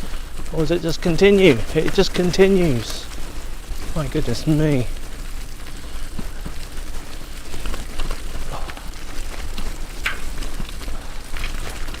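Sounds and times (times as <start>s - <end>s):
bicycle tyres crunching: 0.0s - 12.0s
bike rattling: 0.0s - 12.0s.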